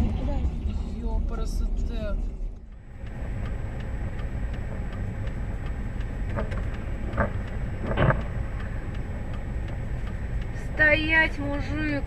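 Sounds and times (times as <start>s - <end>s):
car engine and road rumble: 0.0s - 12.0s
faint ticking: 0.5s - 12.0s.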